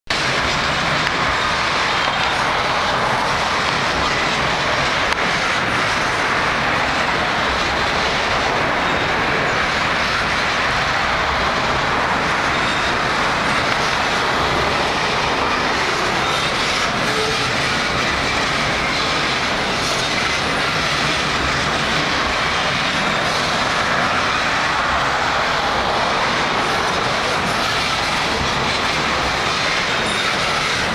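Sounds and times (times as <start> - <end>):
train wheels on rails over bridge: 0.1 - 30.9.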